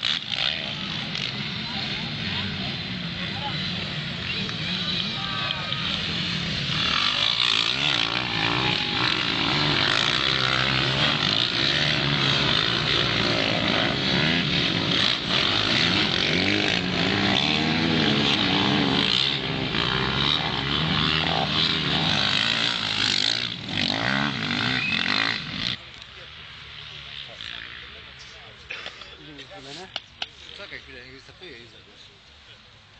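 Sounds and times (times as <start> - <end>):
motocross motorcycles revving: 0.0 - 32.9.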